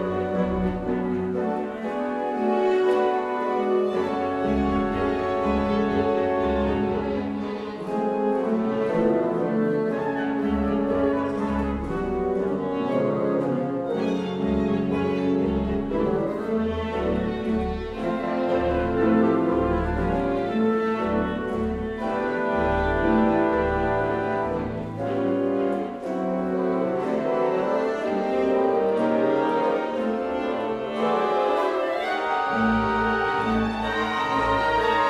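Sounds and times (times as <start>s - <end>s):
bowed strings: 0.0s - 35.0s.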